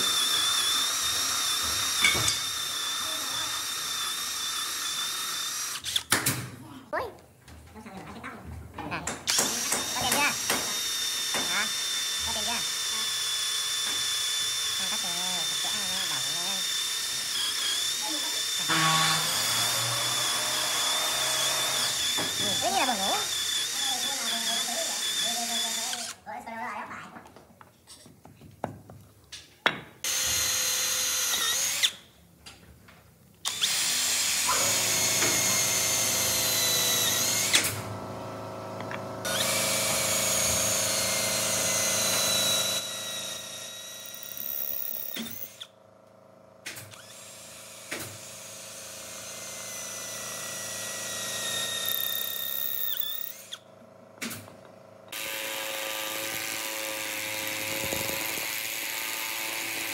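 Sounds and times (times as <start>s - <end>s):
power tool whining: 0.0s - 6.2s, 9.2s - 26.2s, 30.0s - 32.0s, 33.4s - 59.9s.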